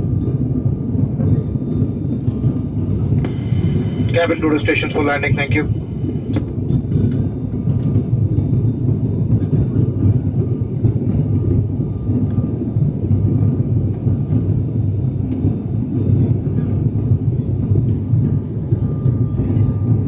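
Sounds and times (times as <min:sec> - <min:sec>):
turboprop engines droning in cabin: 0:00.0 - 0:20.0
faint steady whine: 0:00.1 - 0:20.0.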